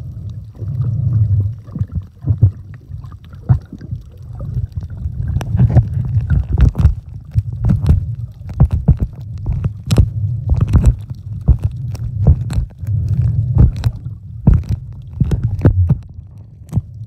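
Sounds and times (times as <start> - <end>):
muffled underwater rumble: 0.0 - 17.0
underwater clicks and pops: 1.6 - 17.0.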